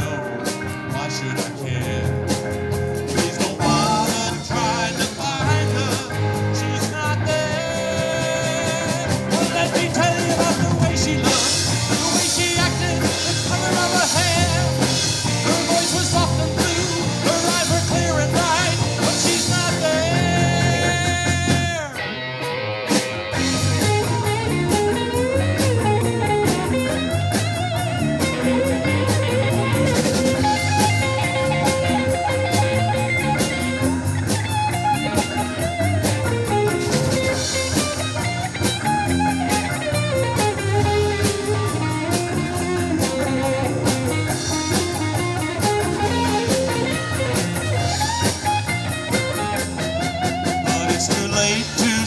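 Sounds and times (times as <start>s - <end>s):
drum kit: 0.0s - 52.0s
electric guitar bending notes: 0.0s - 52.0s.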